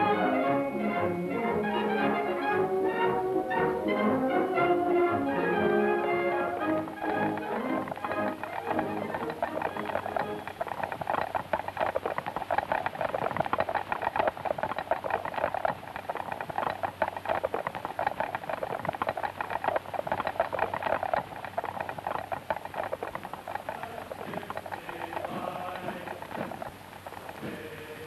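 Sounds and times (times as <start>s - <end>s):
horse hooves clattering: 0.0s - 28.0s.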